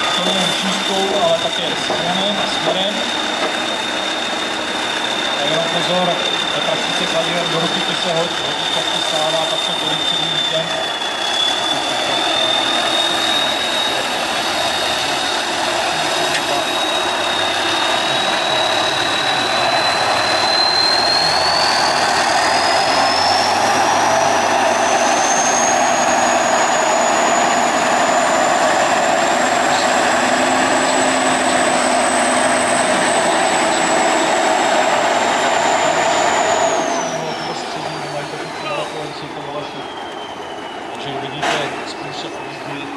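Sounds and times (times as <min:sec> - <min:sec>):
truck diesel engine under load: 0:00.0 - 0:42.9.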